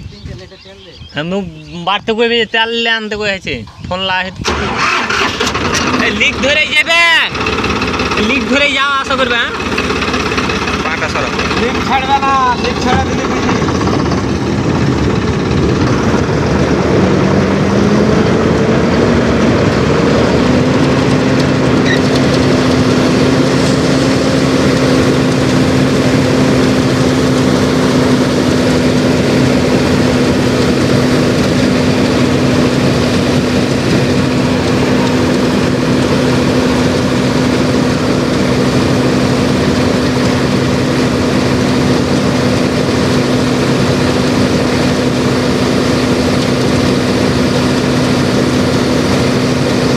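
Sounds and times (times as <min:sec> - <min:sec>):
harvester engine running under load: 0:02.9 - 0:49.9.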